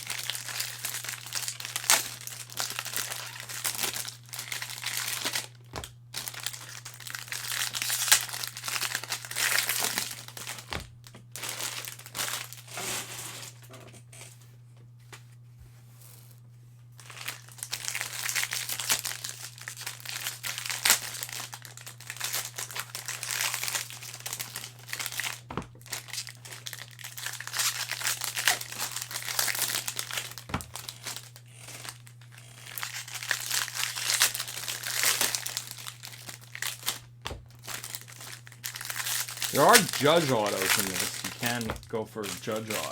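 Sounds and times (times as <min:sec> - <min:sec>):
plastic wrappers crinkling and tearing: 0:00.0 - 0:13.7, 0:17.0 - 0:42.9
low electrical hum: 0:00.0 - 0:42.9.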